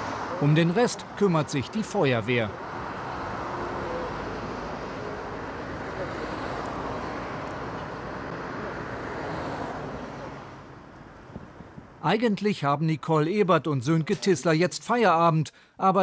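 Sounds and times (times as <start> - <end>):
motorway traffic rushing past: 0.0 - 14.7.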